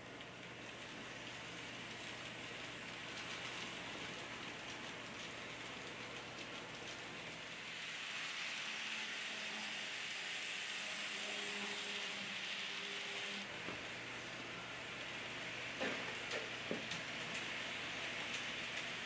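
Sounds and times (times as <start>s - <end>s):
faint humming tones: 0.0s - 19.0s
model train wheels on rails: 0.0s - 19.0s.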